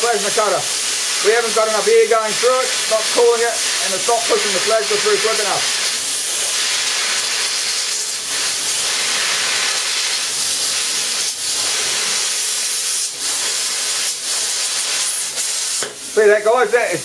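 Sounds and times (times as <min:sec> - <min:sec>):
plasma cutter hissing: 0:00.0 - 0:17.0.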